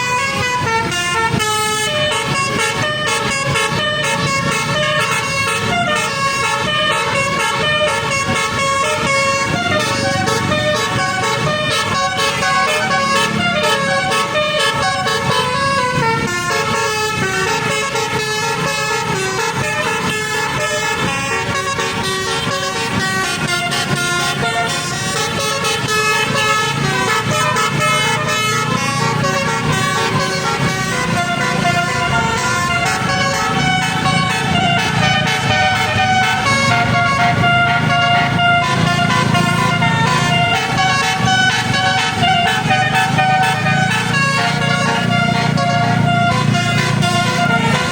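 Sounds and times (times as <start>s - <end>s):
bus musical horn melody: 0.0s - 47.9s.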